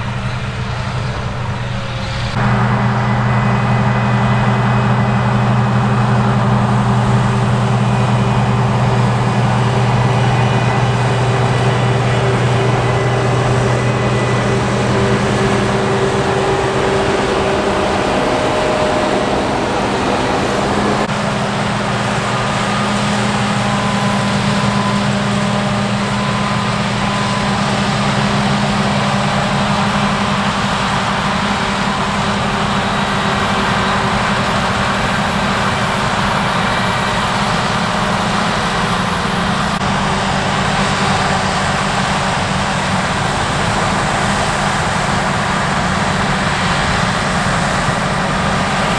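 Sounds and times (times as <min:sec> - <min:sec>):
harvest machinery engine running: 0:00.0 - 0:48.9.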